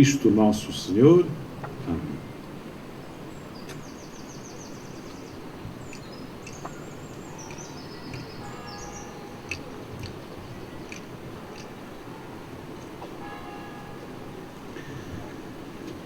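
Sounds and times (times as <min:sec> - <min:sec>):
small birds singing: 0:00.0 - 0:16.0
steady background noise: 0:00.0 - 0:16.0.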